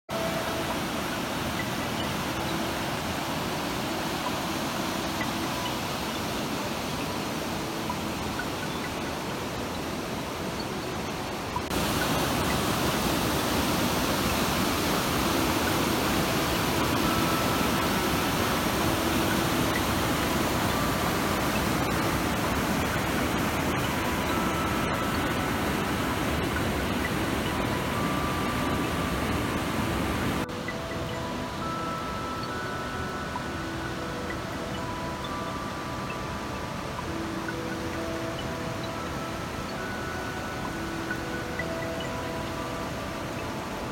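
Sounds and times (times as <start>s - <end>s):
river rapids rushing over boulders: 0.1s - 43.9s.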